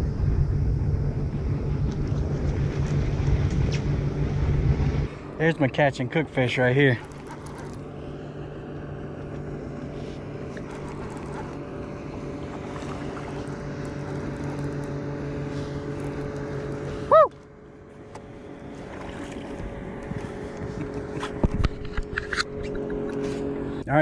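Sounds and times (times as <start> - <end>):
fishing reel mechanical hum: 0.0 - 24.0.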